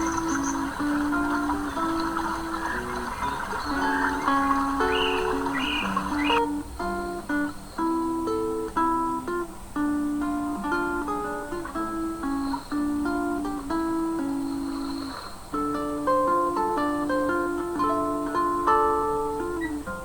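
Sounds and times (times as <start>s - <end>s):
acoustic guitar plucked melody: 0.0s - 20.0s.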